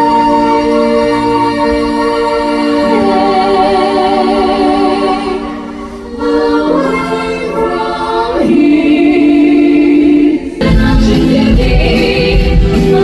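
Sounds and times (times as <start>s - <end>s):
backing music: 0.0s - 13.0s
singers holding notes in harmony: 0.0s - 13.0s.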